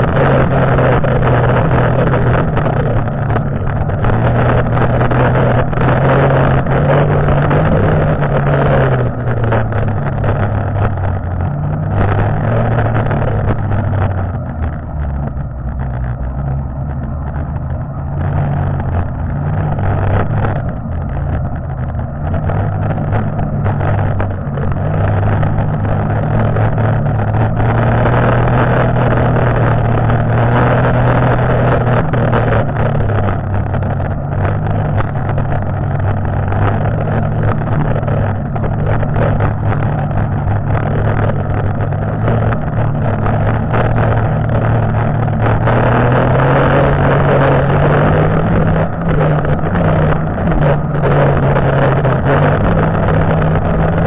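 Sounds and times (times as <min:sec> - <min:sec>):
snowmobile engine running: 0:00.0 - 0:54.0
track and snow noise: 0:00.0 - 0:54.0.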